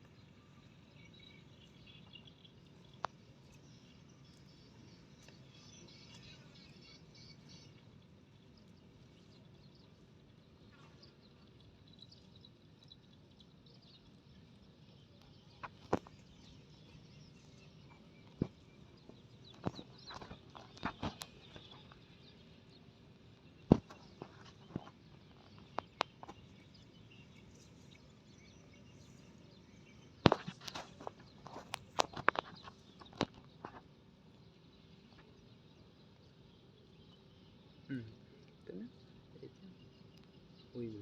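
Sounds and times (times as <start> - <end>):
faint bird chirps: 0.0 - 41.0.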